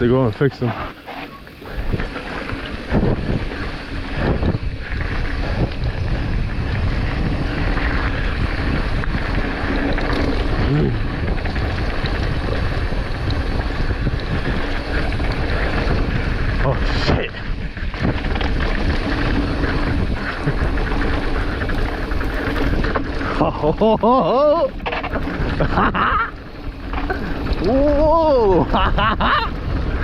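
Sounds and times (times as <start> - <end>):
bike tyres rumbling on dirt trail: 0.0 - 30.0
wind buffeting microphone: 0.0 - 30.0.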